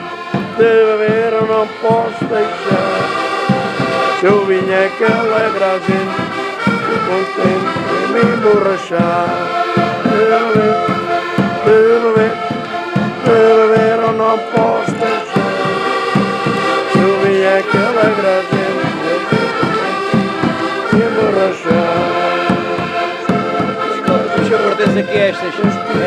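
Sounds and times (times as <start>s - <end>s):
people singing along: 0.0s - 24.6s
accordions playing folk tune: 0.0s - 26.0s
bass drum beat: 0.3s - 26.0s.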